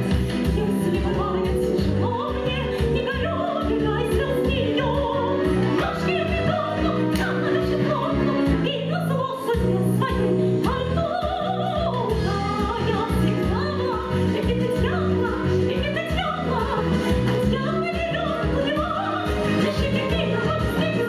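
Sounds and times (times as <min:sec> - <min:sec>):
instrumental accompaniment: 0:00.0 - 0:21.0
women singing operatically: 0:00.0 - 0:21.0.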